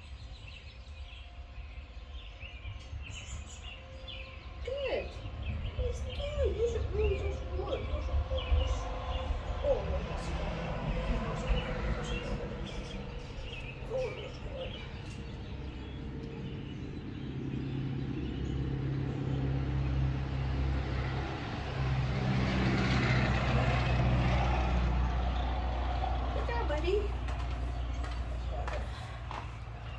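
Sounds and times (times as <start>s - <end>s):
vehicle engine humming: 3.1s - 29.9s.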